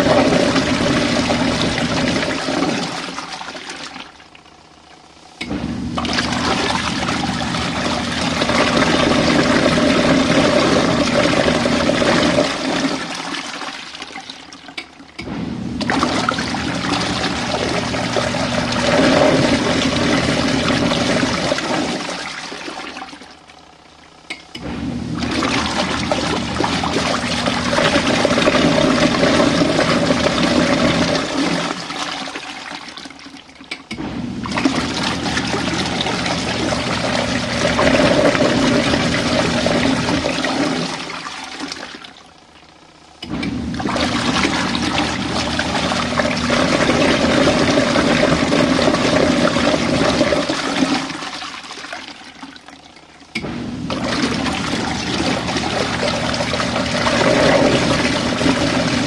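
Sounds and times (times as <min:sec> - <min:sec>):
washing machine water sloshing: 0:00.0 - 0:59.0.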